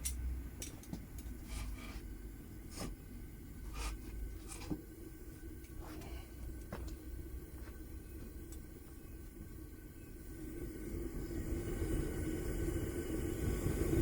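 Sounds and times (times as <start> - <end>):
furnace burner rumbling: 0.0 - 14.0.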